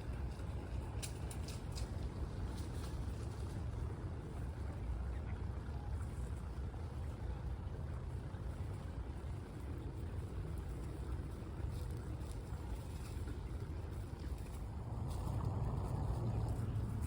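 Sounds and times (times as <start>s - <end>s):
low rumbling outdoor background noise: 0.0s - 17.0s.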